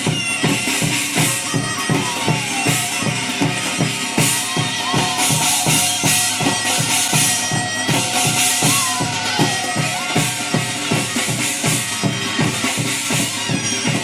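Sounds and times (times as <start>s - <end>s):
cymbals shimmering: 0.0s - 14.0s
drum beaten fast: 0.0s - 14.0s
wind instrument melody: 0.0s - 14.0s.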